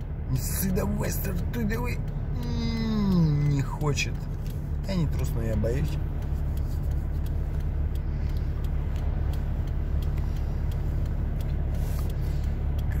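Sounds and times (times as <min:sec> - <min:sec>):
car engine and tyre noise: 0:00.0 - 0:13.0
faint clicks: 0:00.4 - 0:13.0.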